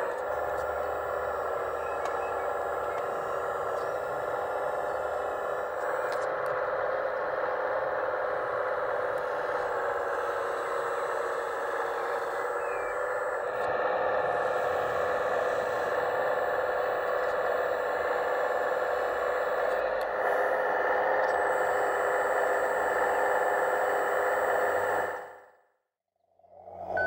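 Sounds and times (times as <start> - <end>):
hydraulic pump running: 0.0 - 25.5.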